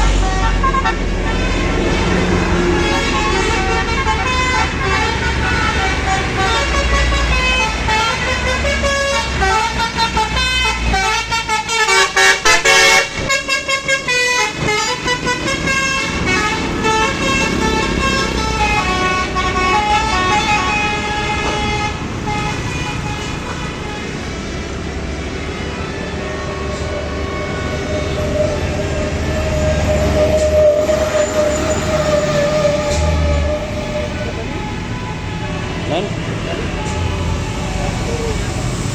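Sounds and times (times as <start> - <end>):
bus horn playing a melody: 0.0 - 24.8, 25.5 - 38.8
bus engine: 0.0 - 38.9.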